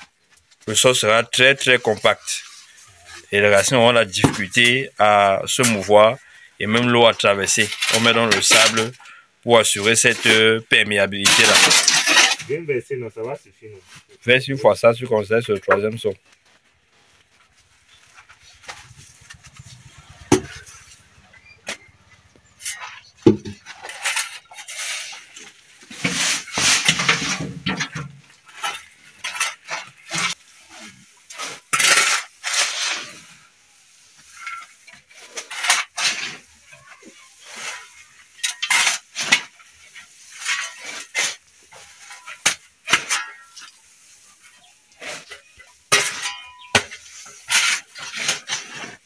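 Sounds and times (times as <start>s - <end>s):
shovels scraping soil: 0.0s - 12.7s, 15.3s - 49.0s.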